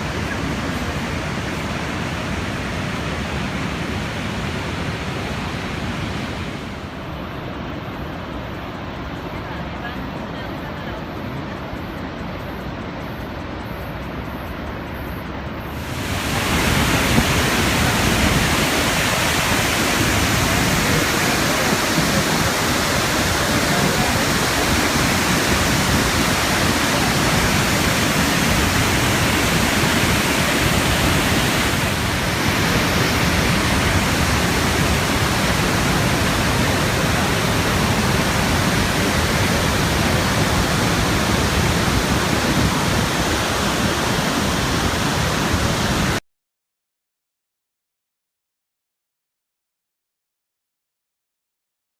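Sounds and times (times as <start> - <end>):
waterfall rushing: 0.0 - 46.2.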